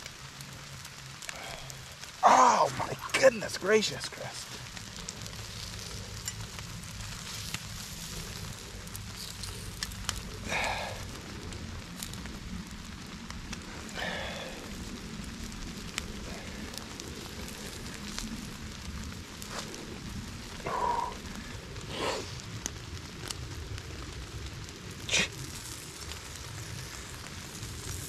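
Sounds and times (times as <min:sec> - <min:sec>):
campfire crackling: 0:00.0 - 0:28.0
sharp pops of fire: 0:00.0 - 0:28.0.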